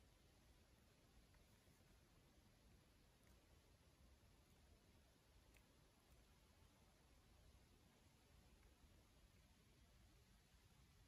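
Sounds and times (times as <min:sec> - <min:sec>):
faint low background rumble: 0:00.0 - 0:11.0.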